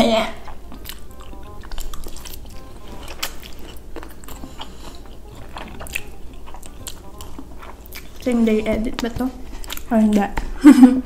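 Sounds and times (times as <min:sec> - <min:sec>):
chewing noodles: 0:00.3 - 0:10.4.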